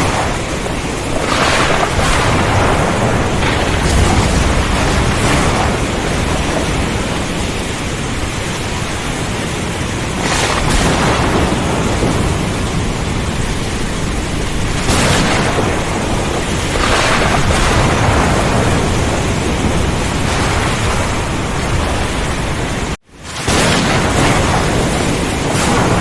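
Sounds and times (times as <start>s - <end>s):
heavy rain and wind: 0.0s - 26.0s
low rumble of thunder: 0.0s - 26.0s
sharp thunder cracks: 0.0s - 26.0s.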